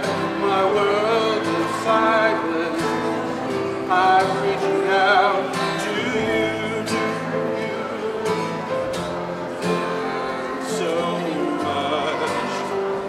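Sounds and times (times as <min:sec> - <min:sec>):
strummed guitar: 0:00.0 - 0:13.0.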